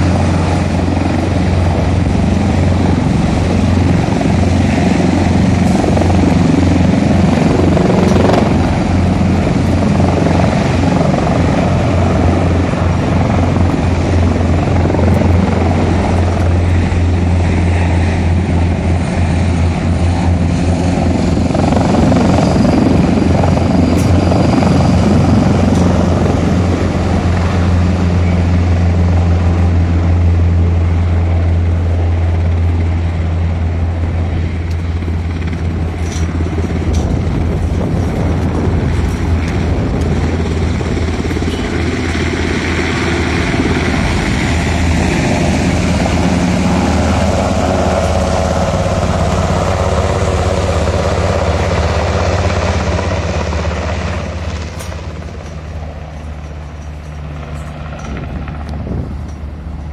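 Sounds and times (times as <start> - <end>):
helicopters flying low: 0.0 - 59.9.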